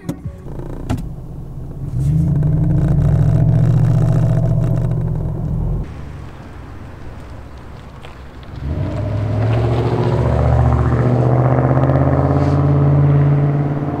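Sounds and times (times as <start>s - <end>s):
faint engine rumble: 0.0s - 14.0s
loud deep engine exhaust: 0.0s - 14.0s.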